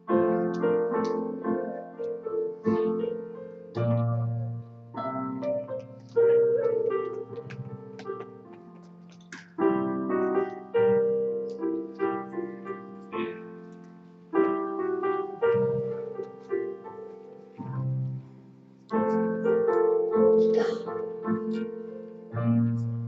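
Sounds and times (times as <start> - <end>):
piano playing hymn chords: 0.0 - 23.0.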